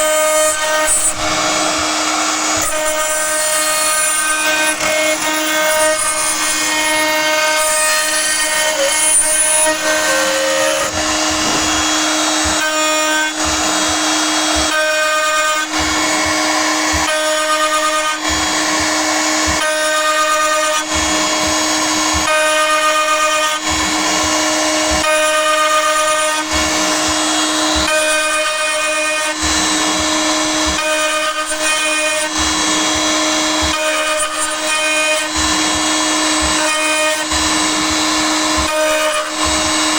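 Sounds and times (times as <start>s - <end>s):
high-pitched metal cutting screech: 0.0s - 39.9s
steady spindle tone: 0.0s - 39.9s.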